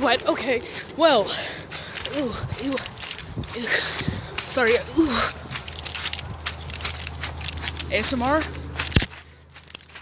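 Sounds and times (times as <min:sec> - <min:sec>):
footsteps squelching in wet marsh: 0:00.0 - 0:10.0.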